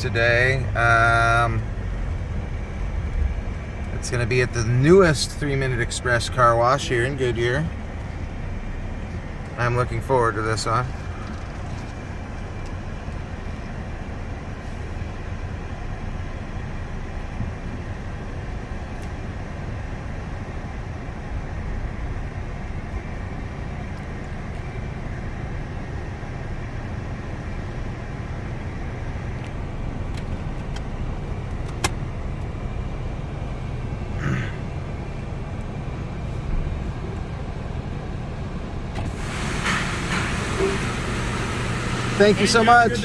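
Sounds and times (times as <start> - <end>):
car interior rumble: 0.0 - 43.0.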